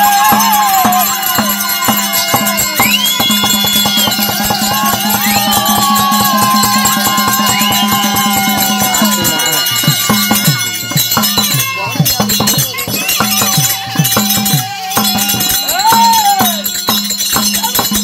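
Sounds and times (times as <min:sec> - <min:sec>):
barrel drum beating: 0:00.0 - 0:18.0.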